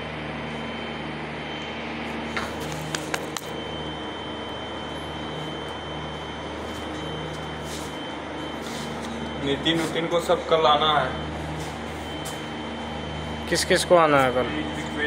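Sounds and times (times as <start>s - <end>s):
high whine: 0.0s - 15.0s
industrial machinery hum: 0.0s - 15.0s.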